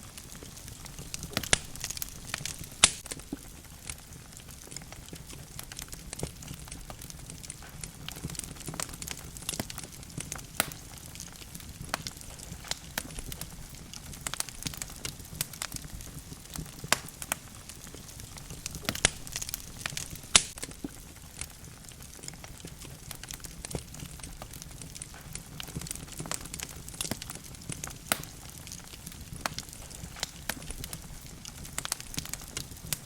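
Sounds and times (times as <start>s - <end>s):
logs crackling in a fireplace: 0.0s - 33.0s.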